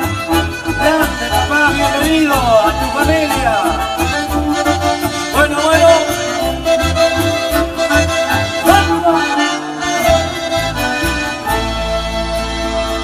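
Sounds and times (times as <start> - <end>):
folk dance accordion music: 0.0 - 13.0
steady bass beat: 0.1 - 12.9.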